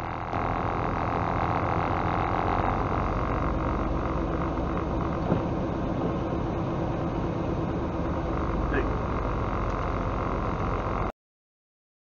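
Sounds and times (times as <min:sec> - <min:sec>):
truck diesel engine running: 0:00.0 - 0:11.1
tyres on wet road: 0:00.2 - 0:11.1.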